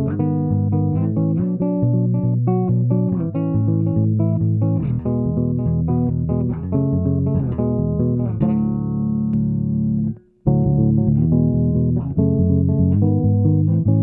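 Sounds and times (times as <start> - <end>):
electric bass plucking chords: 0.0 - 14.0.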